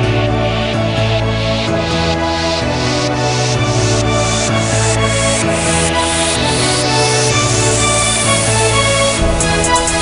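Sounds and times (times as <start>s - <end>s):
electronic dance music: 0.1s - 10.0s.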